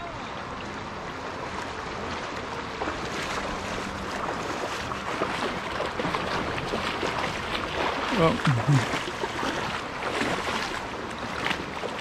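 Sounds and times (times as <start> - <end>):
river water rushing over stones: 0.0 - 12.0
splashing from wading: 0.9 - 12.0.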